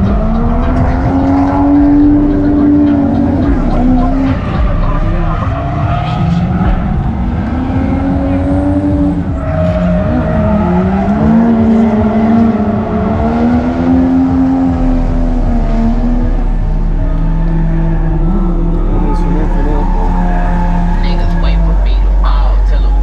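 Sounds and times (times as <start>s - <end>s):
car engines revving: 0.0s - 23.0s
steady low rumble: 0.0s - 23.0s.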